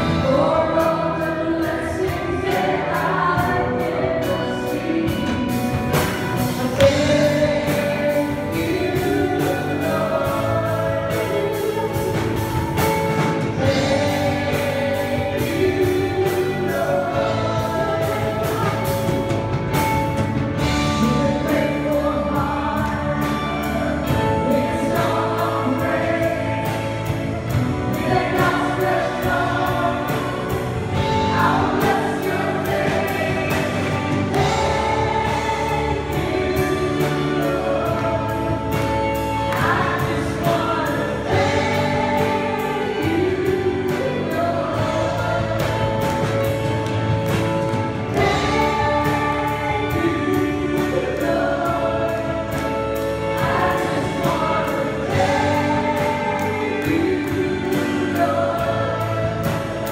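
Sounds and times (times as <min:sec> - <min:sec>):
drums with steady beat: 0:00.0 - 0:59.9
keyboard: 0:00.0 - 0:59.9
voices singing: 0:00.0 - 0:59.9.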